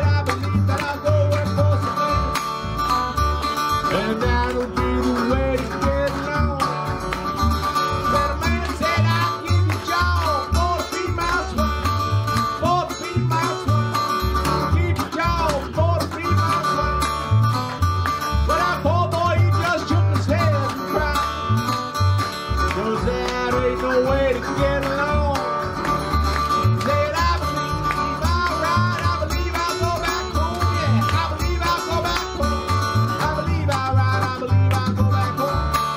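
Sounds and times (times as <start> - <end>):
picked resonator guitar: 0.0 - 35.9.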